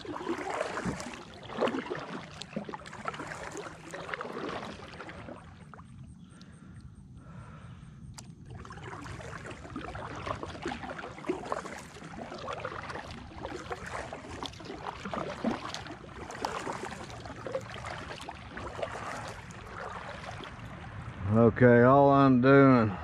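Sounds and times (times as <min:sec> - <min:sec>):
water splashing and dripping: 0:00.0 - 0:06.5, 0:08.1 - 0:21.2
paddle dipping through water: 0:00.0 - 0:21.2.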